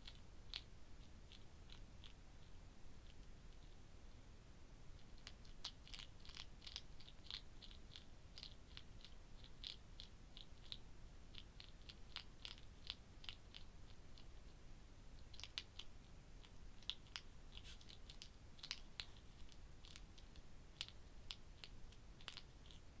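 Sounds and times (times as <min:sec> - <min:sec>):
hedgehog chewing crunchy food: 0:00.0 - 0:04.2, 0:04.9 - 0:14.6, 0:15.2 - 0:23.0.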